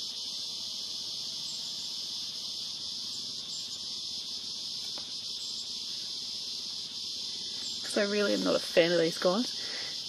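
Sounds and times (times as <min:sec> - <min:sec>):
insect chorus drone: 0:00.0 - 0:10.0.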